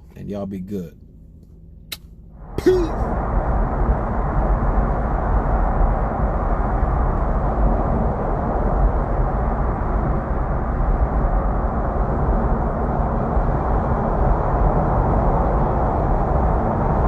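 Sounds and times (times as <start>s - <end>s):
vehicle road noise rumble: 0.0s - 17.0s.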